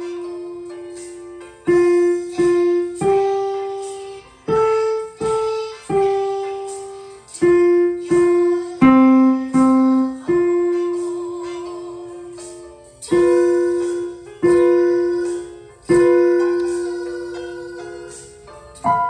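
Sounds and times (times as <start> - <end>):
digital piano playing simple melody: 0.0 - 19.0.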